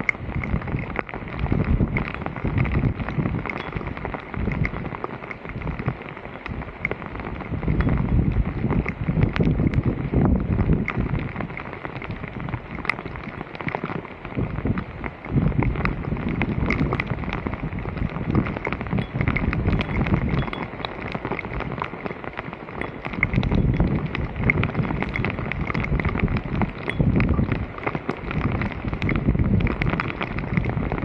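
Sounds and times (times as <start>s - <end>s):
small crackles and ticks: 0.0s - 31.0s
wind buffeting microphone: 0.0s - 31.0s.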